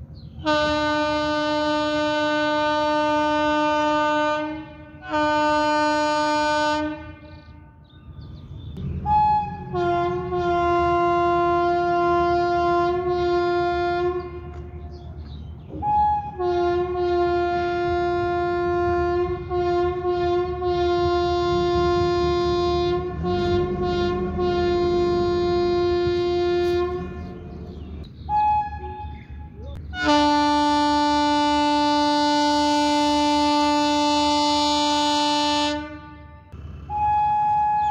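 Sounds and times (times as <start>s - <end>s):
locomotive horn blasts: 0.4s - 7.8s, 8.9s - 14.9s, 15.7s - 37.9s.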